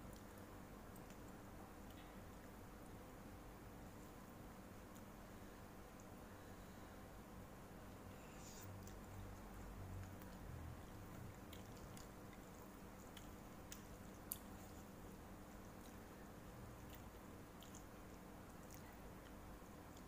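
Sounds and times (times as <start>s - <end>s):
faint chewing of noodles: 0.0s - 20.0s.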